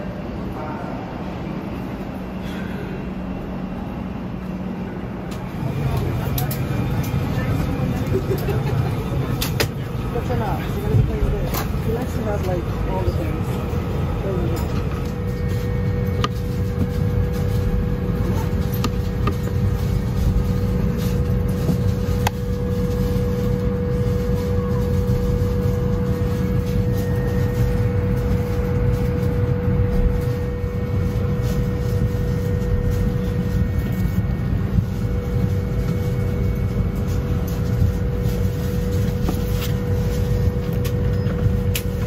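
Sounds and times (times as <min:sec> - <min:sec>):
airplane cabin rumble and hum: 0:00.0 - 0:42.0.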